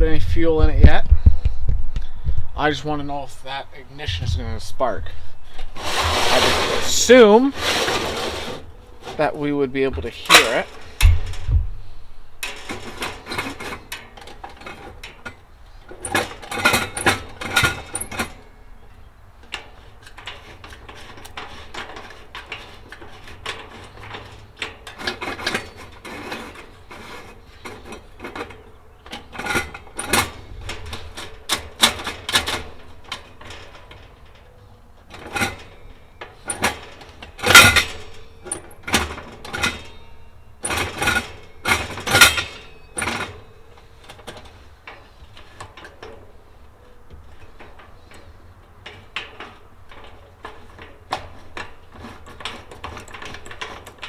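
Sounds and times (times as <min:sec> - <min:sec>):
heater controls clicking and rattling: 0:00.0 - 0:54.0.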